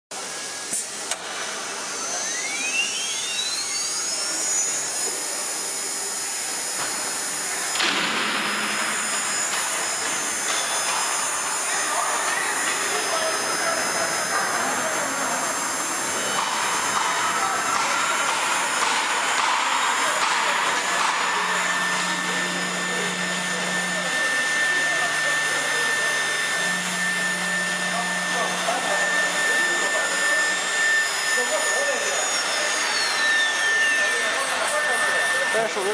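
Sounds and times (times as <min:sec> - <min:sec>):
router spindle whine: 0:00.1 - 0:35.9
low motor hum: 0:00.3 - 0:35.9.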